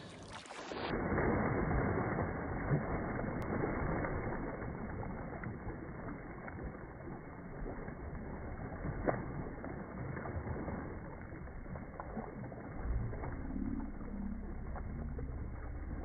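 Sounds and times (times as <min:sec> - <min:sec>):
fish splashing in water: 0:00.0 - 0:16.0.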